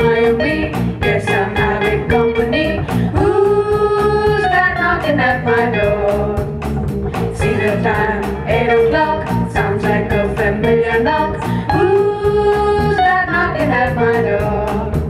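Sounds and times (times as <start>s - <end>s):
upbeat bluesy band music: 0.0s - 15.0s.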